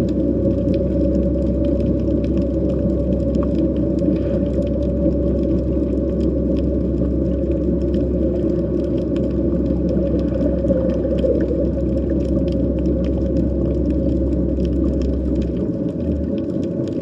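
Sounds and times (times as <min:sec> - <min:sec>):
constant low hum: 0:00.0 - 0:17.0
faint underwater clicks: 0:00.0 - 0:17.0
low underwater rumble: 0:00.0 - 0:17.0.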